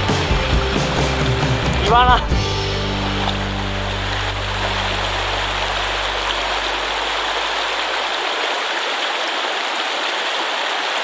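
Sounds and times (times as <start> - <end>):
stream rushing over rocks: 0.9 - 11.0.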